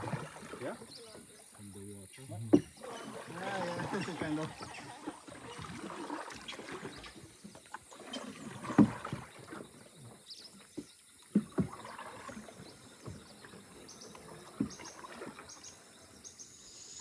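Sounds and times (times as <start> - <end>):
paddle knocking against hull: 0.0 - 1.3, 2.4 - 15.6
paddle splashes: 0.0 - 1.8, 2.5 - 16.6.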